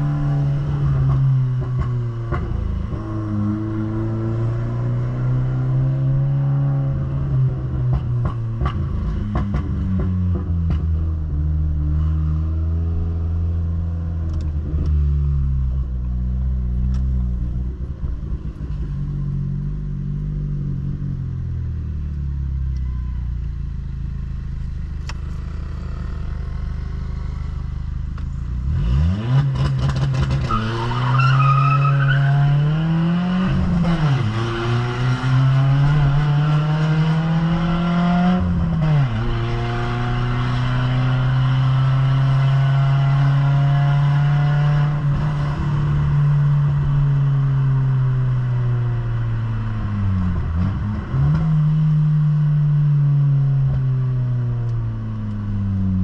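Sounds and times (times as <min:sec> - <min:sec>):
car engine droning and revving: 0:00.0 - 0:56.0.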